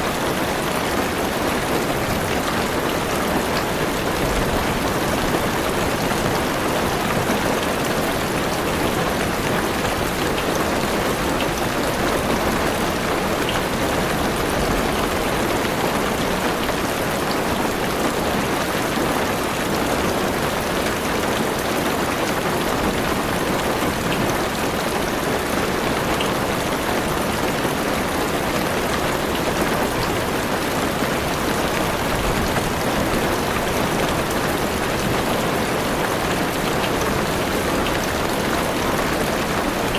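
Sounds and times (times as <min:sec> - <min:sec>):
heavy rain on a car roof: 0:00.0 - 0:39.9.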